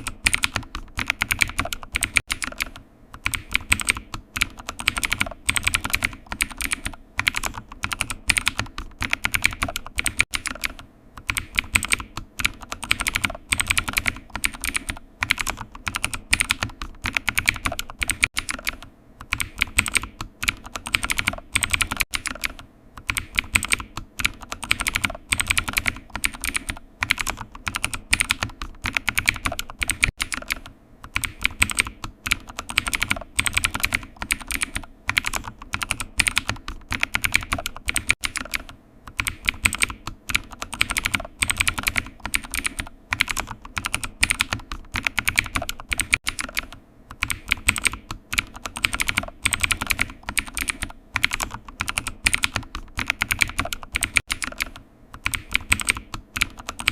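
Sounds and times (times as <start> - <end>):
typing on computer keyboard: 0.0 - 56.9.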